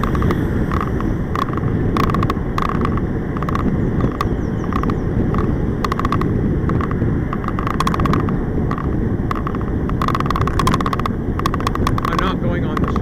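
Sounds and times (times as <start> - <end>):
rattling clicks of bike mount: 0.0 - 13.0
wind rumbling over microphone: 0.0 - 13.0.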